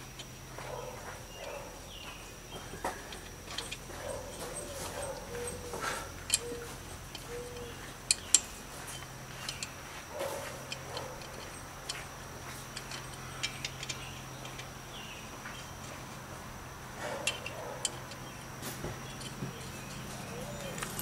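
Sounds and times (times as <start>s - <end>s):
lug nuts clicking and clinking: 2.7s - 21.0s.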